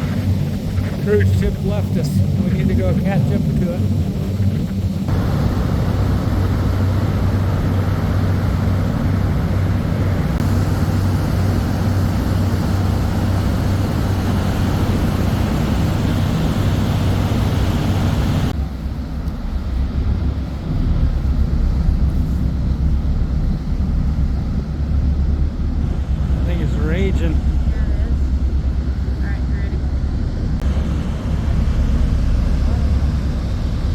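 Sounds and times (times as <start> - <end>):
boat engine running: 0.0 - 33.9
wind and water rushing: 0.0 - 33.9.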